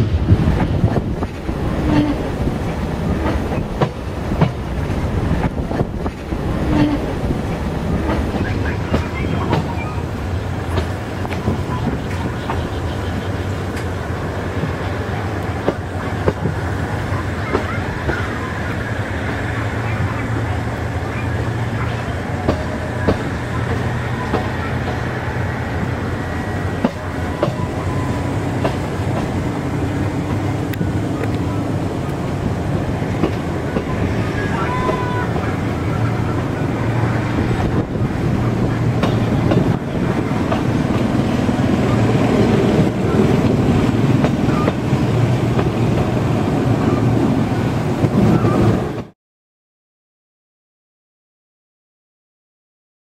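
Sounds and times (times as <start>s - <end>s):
train wheels rumbling on rails: 0.0s - 49.1s.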